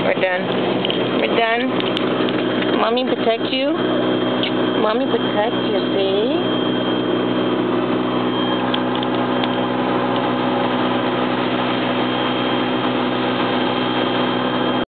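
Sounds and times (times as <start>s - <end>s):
car wash machinery rushing: 0.0s - 14.8s
constant hum: 0.0s - 14.8s
thin high tone: 2.7s - 14.8s.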